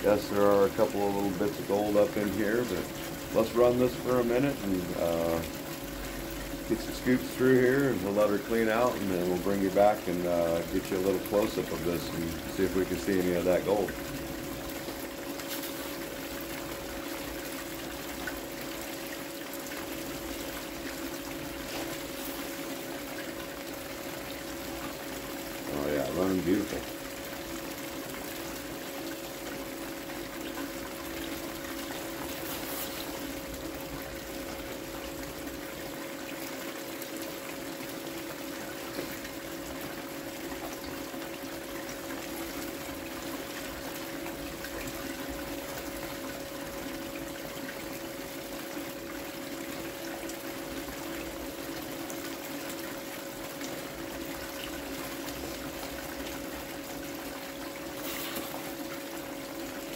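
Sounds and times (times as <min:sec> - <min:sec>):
small pump humming: 0:00.0 - 0:59.9
water pouring and trickling: 0:00.0 - 0:59.9.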